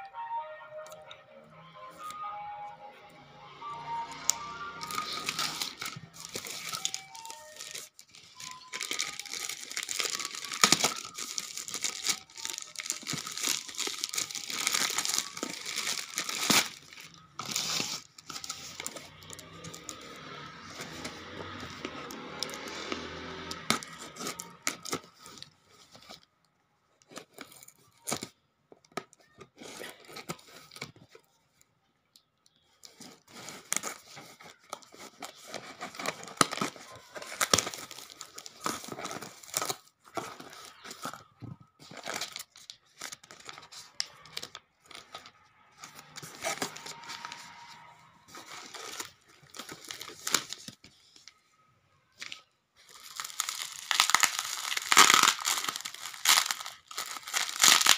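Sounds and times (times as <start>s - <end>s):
packaging crinkling: 4.1s - 26.3s, 32.6s - 51.4s, 52.2s - 57.9s.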